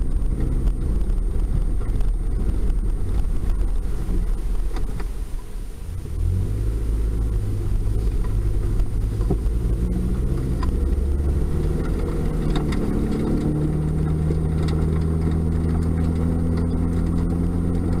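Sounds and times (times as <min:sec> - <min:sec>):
pickup truck driving on wet road: 0:00.0 - 0:18.0.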